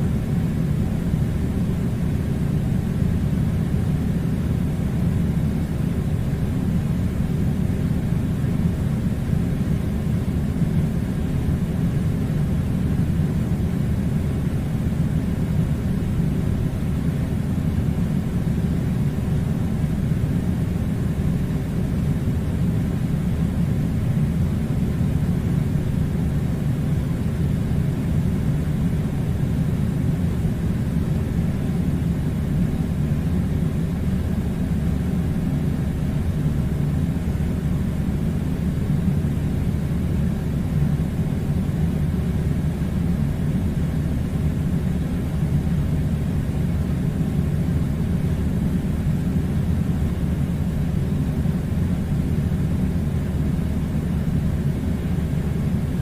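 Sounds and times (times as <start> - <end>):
air conditioner running: 0.0 - 56.0.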